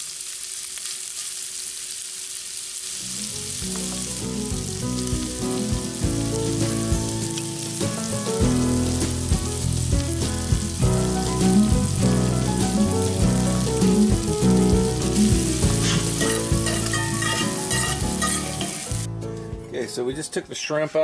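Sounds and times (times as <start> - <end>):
shrimp sizzling in a skillet: 0.0 - 19.1
background music: 3.1 - 21.0.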